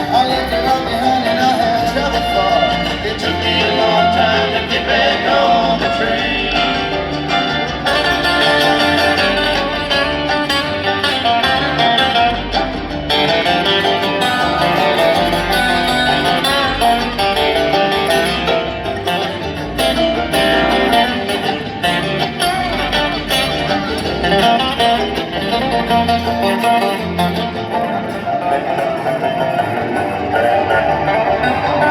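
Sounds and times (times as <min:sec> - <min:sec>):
acoustic guitar: 0:00.0 - 0:31.9
bass line: 0:00.0 - 0:31.9
bluegrass band playing: 0:00.0 - 0:31.9.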